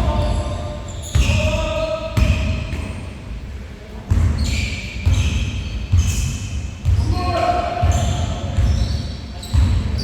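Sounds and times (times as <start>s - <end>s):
basketball bouncing on court: 0.0s - 3.0s, 4.1s - 10.0s
shoe squeaks on court: 0.1s - 3.1s, 4.1s - 7.1s, 7.8s - 10.0s.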